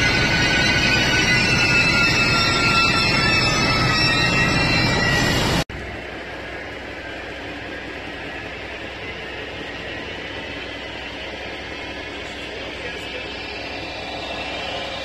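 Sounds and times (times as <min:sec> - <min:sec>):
electric train running noise: 0:00.0 - 0:15.0.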